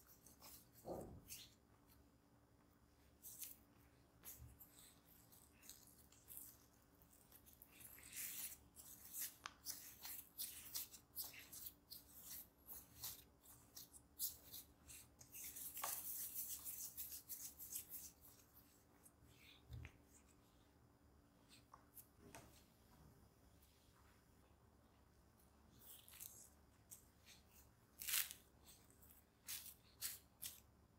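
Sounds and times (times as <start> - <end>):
hands rubbing bread dough: 0.0 - 2.1, 2.7 - 22.8, 25.6 - 30.9.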